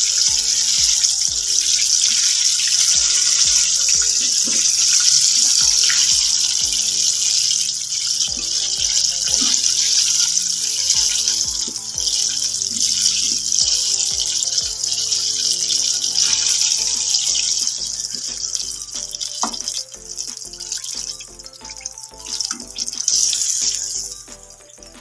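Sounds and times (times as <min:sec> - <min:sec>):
background music: 0:00.0 - 0:25.0
chicken deep-frying in oil: 0:00.0 - 0:25.0.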